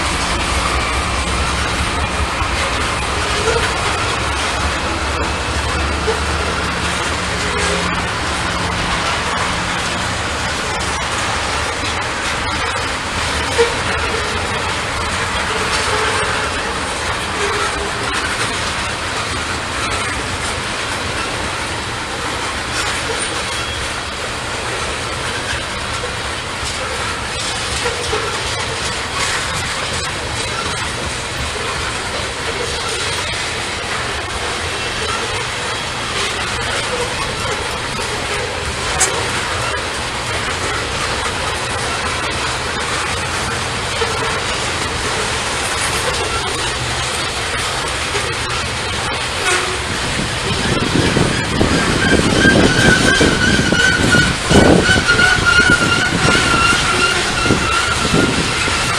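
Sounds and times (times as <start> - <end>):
clicks over rail joints: 0.0 - 58.9
train wheels rumbling on rails: 0.0 - 58.9.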